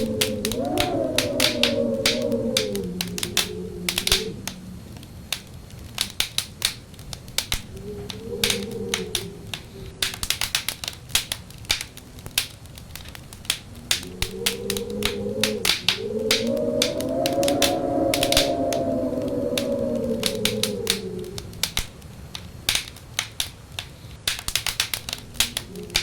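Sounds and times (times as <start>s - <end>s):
wind howling: 0.0s - 26.0s
wood fire crackling and popping: 0.0s - 26.0s.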